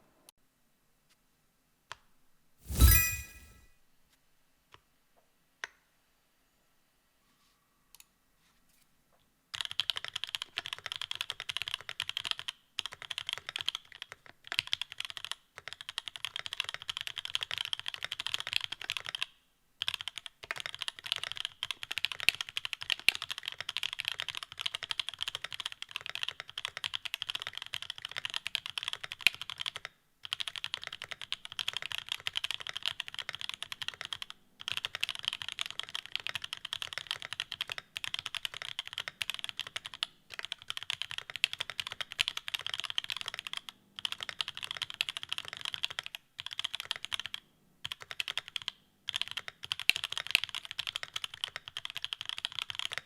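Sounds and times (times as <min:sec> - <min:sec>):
mechanical keyboard typing: 0:09.5 - 0:53.0.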